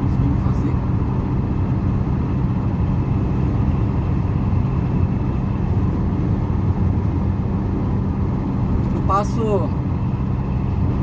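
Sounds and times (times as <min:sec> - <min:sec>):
diesel engine and road noise: 0:00.0 - 0:11.0.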